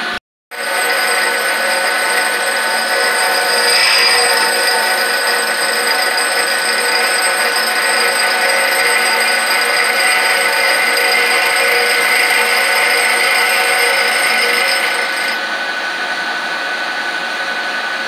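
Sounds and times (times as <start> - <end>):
grinder motor whine: 0.0 - 15.4
grinding wheel hiss: 0.6 - 15.4.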